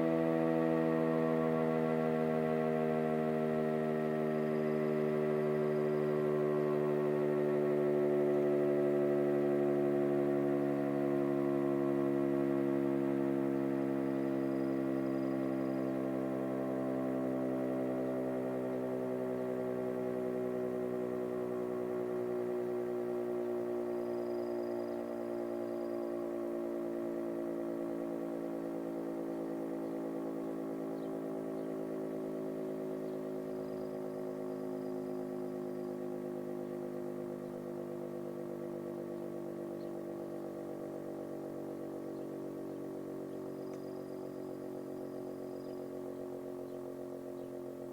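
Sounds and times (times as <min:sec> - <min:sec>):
siren winding down: 0:00.0 - 0:47.9.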